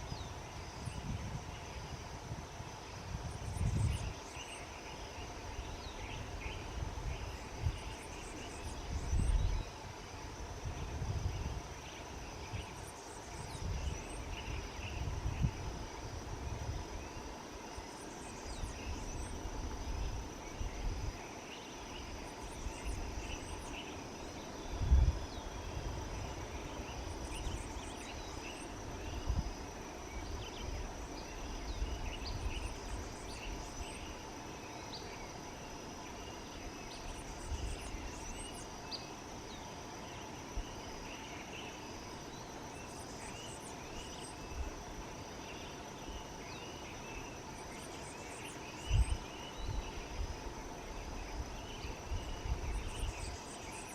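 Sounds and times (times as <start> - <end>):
insect chorus buzzing: 0.0 - 53.9.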